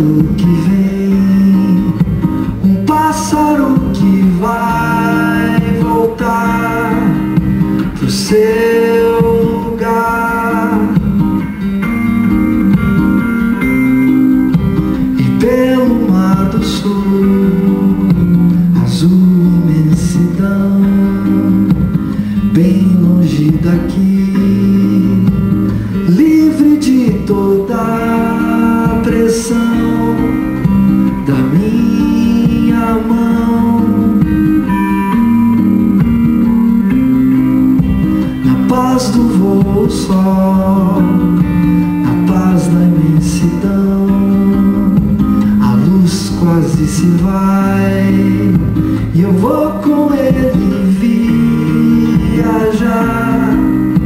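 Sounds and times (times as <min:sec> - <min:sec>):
electric guitar: 0:00.0 - 0:54.0
nylon-string guitar fingerpicked: 0:00.0 - 0:54.0.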